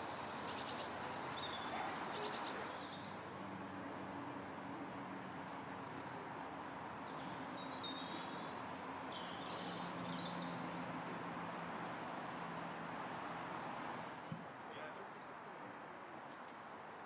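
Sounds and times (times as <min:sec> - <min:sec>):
steady background noise: 0:00.0 - 0:17.0
small birds chirping: 0:00.2 - 0:03.4, 0:05.1 - 0:12.0, 0:13.0 - 0:16.9.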